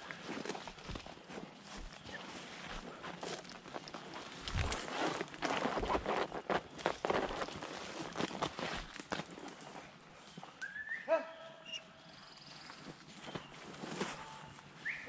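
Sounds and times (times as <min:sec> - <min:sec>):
footsteps crunching through dry brush: 0:00.0 - 0:10.5, 0:12.3 - 0:15.0.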